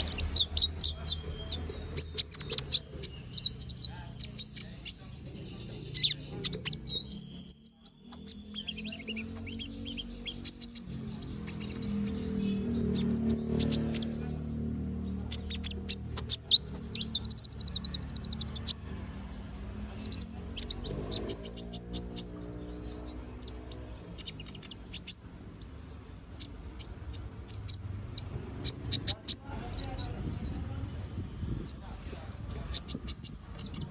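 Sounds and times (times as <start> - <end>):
sunbird singing chirps and trills: 0.0 - 33.9.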